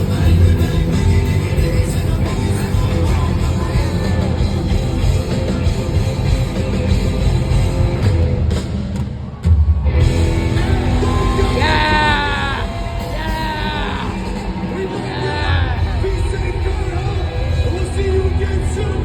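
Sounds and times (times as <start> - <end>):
live rock band playing loudly: 0.0 - 19.0.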